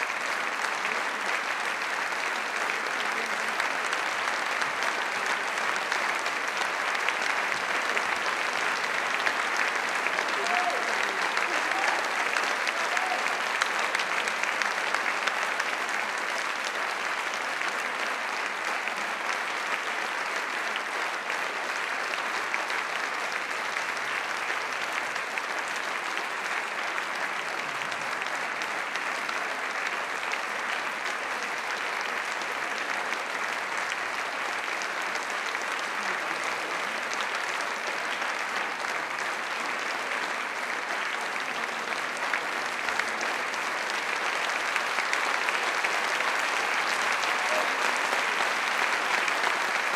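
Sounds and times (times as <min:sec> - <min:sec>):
audience applauding: 0:00.0 - 0:49.9.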